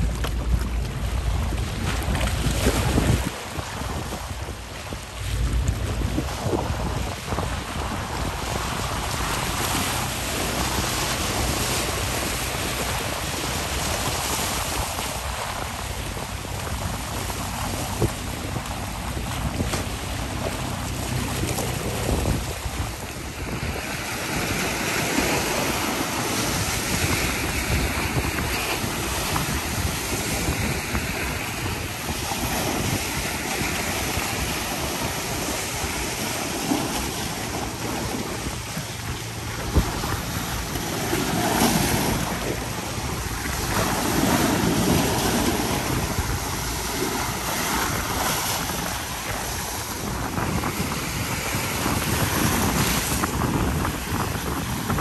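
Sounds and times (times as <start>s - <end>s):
waves splashing on rocky shore: 0.0s - 55.0s
wind buffeting microphone: 0.0s - 55.0s.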